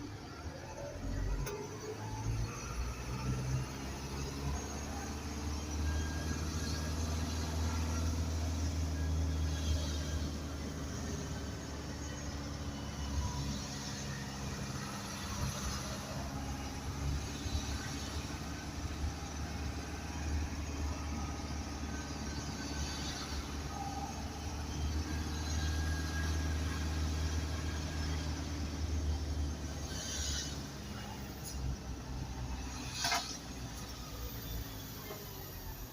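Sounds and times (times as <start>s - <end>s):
road noise: 0.0s - 35.9s
truck engine drone: 0.0s - 35.9s.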